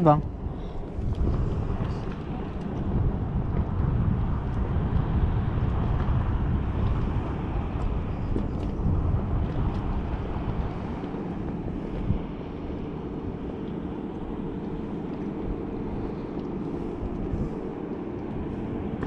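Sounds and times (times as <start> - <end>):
water slapping around boat: 0.0 - 19.0
wind rumble on microphone: 0.0 - 19.0.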